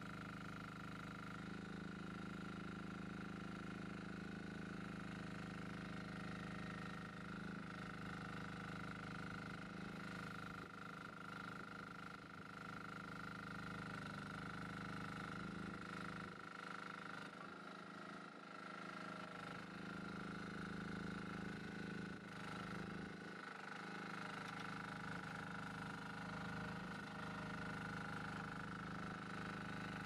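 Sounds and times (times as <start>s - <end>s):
excavator engine drone: 0.0s - 30.0s.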